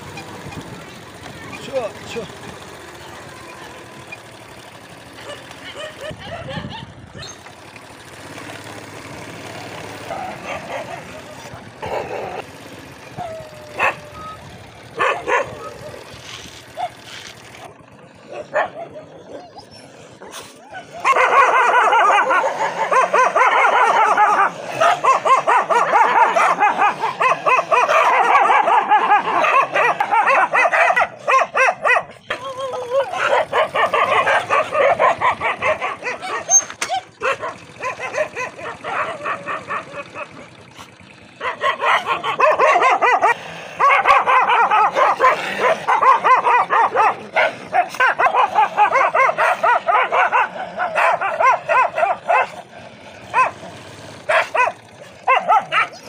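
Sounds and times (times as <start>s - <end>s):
dogs barking aggressively: 3.9s - 56.0s.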